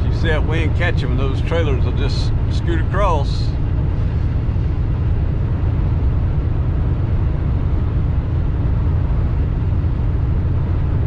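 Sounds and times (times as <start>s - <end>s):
truck cab driving rumble: 0.0s - 11.0s.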